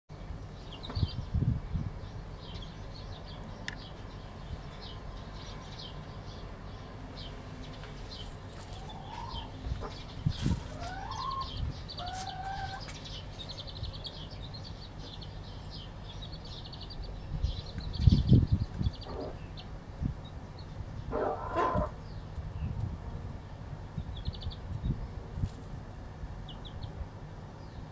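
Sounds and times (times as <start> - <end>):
chicks peeping: 0.6 - 25.7, 26.4 - 27.0.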